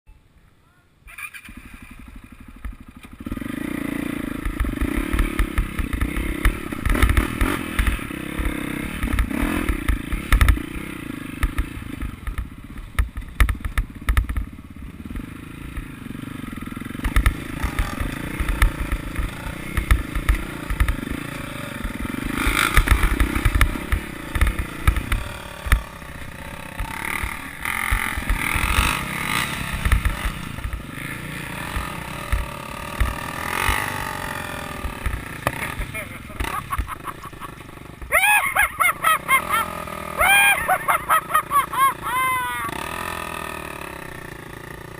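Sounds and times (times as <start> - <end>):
dirt bike engines revving: 1.1 - 44.9.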